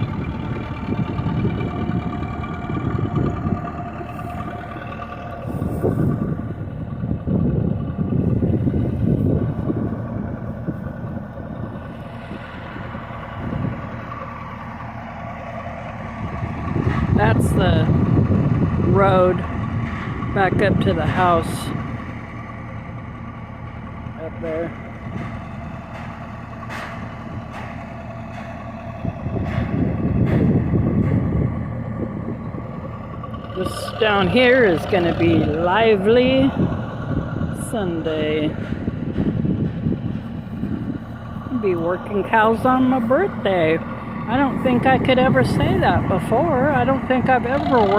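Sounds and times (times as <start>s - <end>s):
wind on microphone: 0.0s - 14.2s, 15.8s - 23.0s, 24.8s - 47.9s
vehicle engine running: 0.0s - 47.9s.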